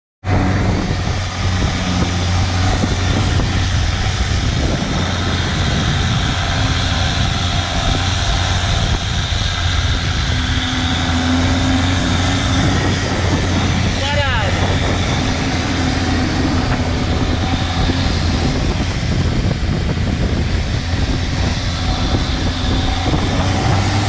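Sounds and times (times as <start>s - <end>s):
boat engine droning: 0.2s - 24.0s.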